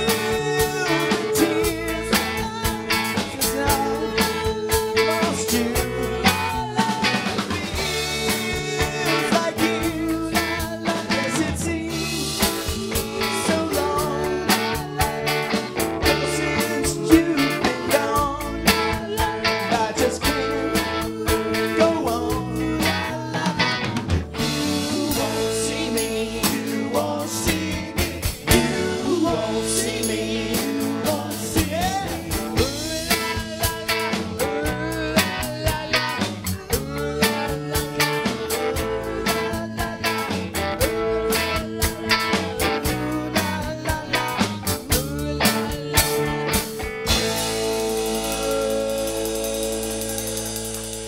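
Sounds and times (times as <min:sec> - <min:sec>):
person singing: 0:00.0 - 0:51.0
rock band playing: 0:00.0 - 0:51.0.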